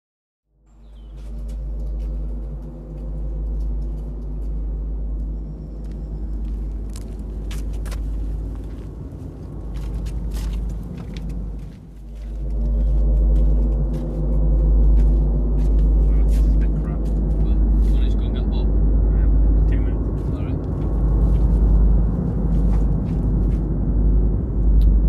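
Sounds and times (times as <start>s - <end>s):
low rumbling drone: 0.5s - 25.0s.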